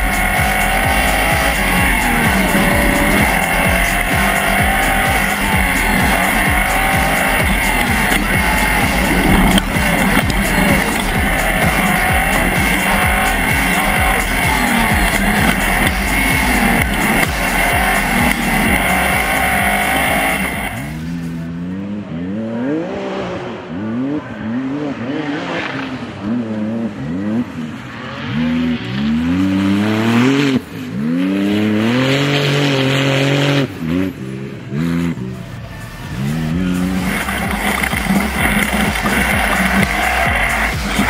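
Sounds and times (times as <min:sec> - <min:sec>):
background music: 0:00.0 - 0:21.6, 0:28.3 - 0:41.0
buggy engine revving: 0:00.0 - 0:41.0.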